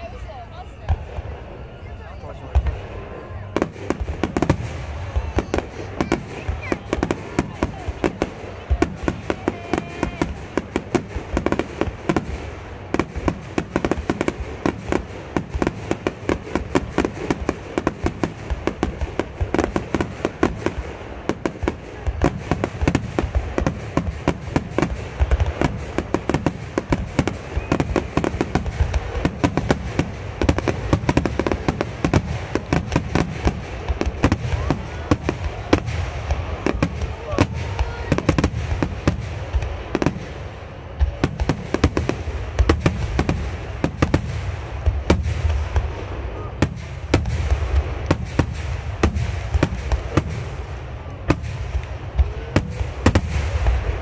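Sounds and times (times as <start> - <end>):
fireworks booming and cracking: 0.0 - 54.0.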